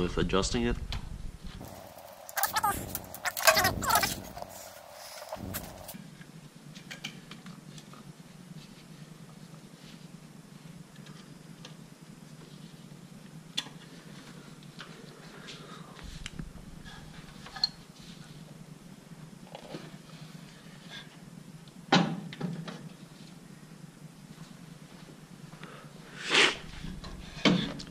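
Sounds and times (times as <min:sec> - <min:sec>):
faint steady hum: 0:01.3 - 0:27.9.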